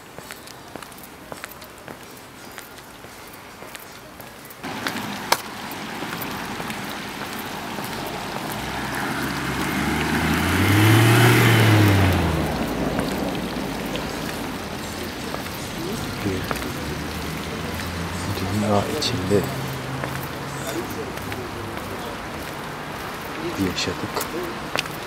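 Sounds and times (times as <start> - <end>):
vehicle passing by: 4.6 - 25.0.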